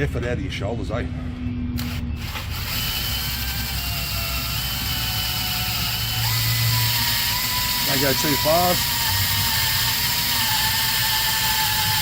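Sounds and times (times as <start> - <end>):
electric drill boring into steel: 1.8 - 12.0.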